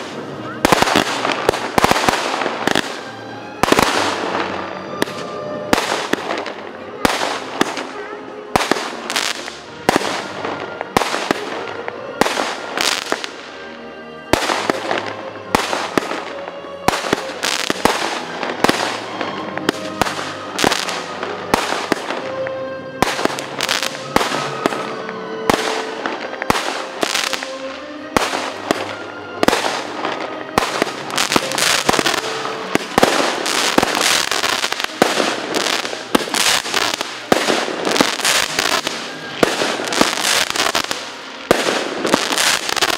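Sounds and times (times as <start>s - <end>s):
fireworks bangs and crackles: 0.0s - 13.6s, 14.2s - 42.9s.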